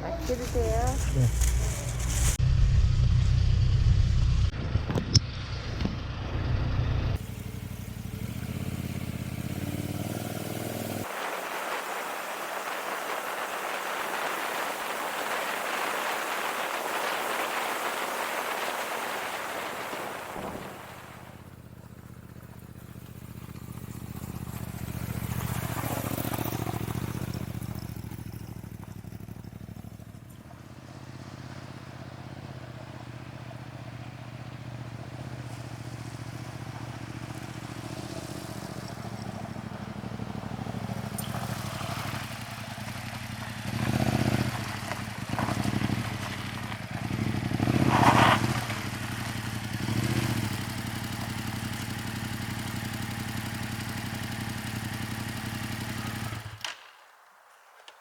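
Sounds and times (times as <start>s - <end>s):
motorcycle engine running: 0.0s - 11.1s, 20.4s - 56.6s
wind and road noise: 0.0s - 58.0s.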